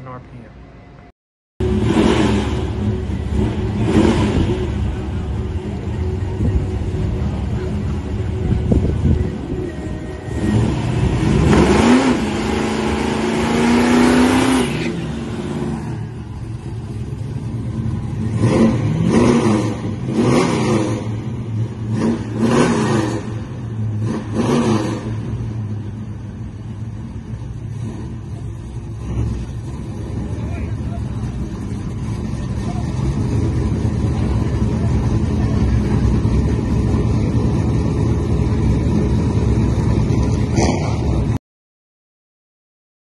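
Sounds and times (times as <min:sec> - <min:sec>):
car engine revving: 0:01.6 - 0:41.4.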